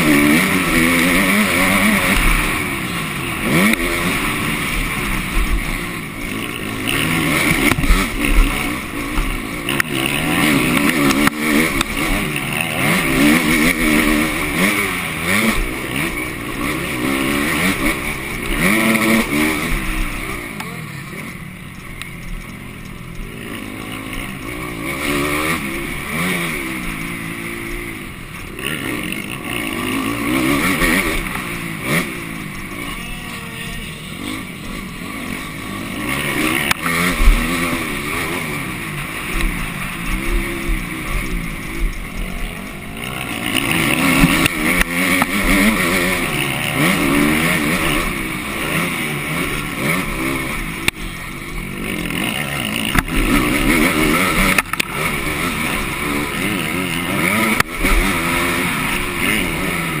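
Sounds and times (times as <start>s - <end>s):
motorbike engine revving: 0.0s - 60.0s.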